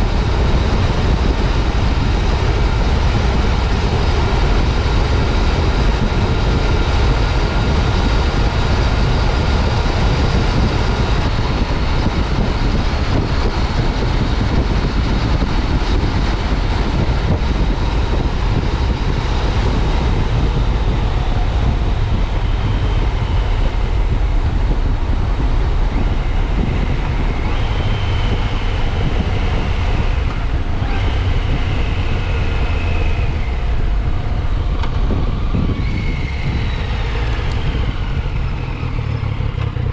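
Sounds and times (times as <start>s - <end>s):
motorcycle engine running: 0.0s - 39.9s
road noise: 0.0s - 39.9s
wind rush: 0.0s - 39.9s.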